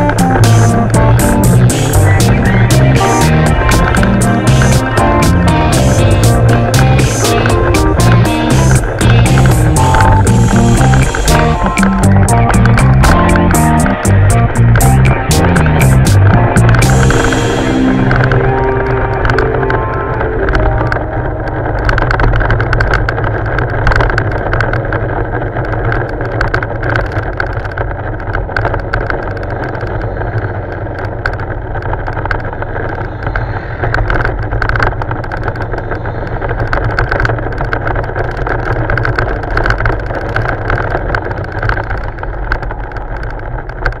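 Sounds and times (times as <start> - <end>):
motorcycle running: 0.0 - 44.0
wind noise: 0.0 - 44.0.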